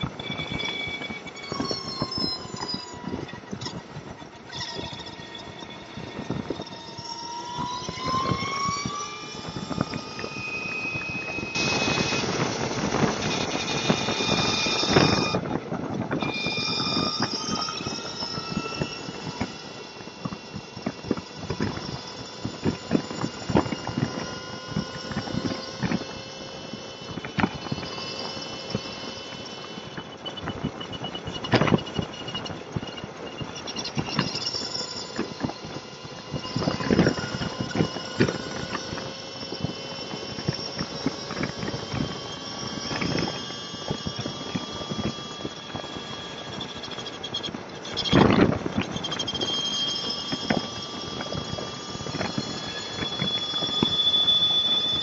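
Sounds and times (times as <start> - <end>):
motorcycle engine whine: 0.0 - 55.0.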